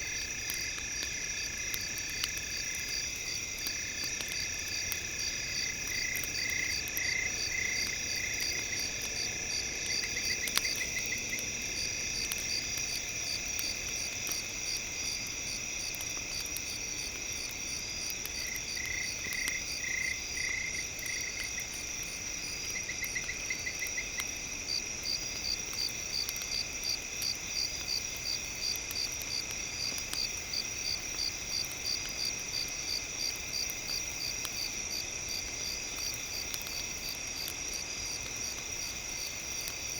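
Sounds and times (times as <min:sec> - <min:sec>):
crickets chirping: 0:00.0 - 0:39.9
insect drone: 0:00.0 - 0:39.9.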